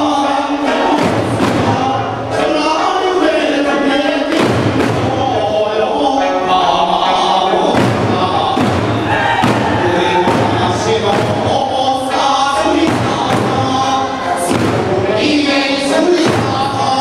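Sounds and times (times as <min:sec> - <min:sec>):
large drums beating: 0:00.0 - 0:17.0
person singing folk song: 0:00.0 - 0:17.0.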